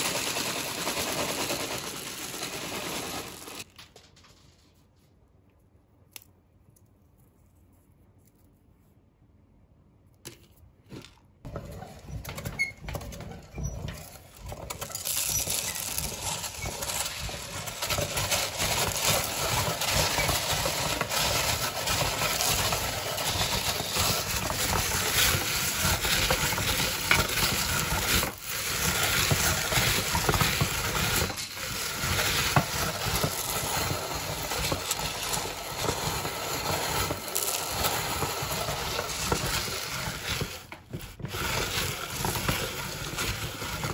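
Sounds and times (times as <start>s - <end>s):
meat grinder crunching cereal: 0.0s - 3.7s, 11.5s - 43.9s.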